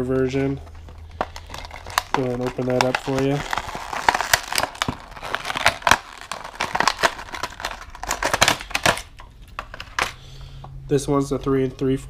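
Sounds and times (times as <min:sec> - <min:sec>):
packaging crinkling: 0:00.2 - 0:10.2.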